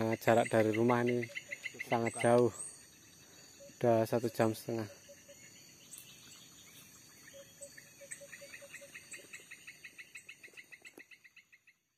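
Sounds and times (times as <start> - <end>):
insects buzzing: 0.0 - 11.9.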